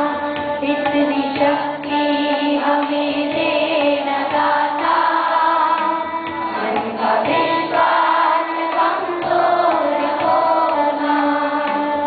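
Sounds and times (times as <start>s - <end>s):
children singing: 0.0s - 12.0s
musical accompaniment: 0.0s - 12.0s.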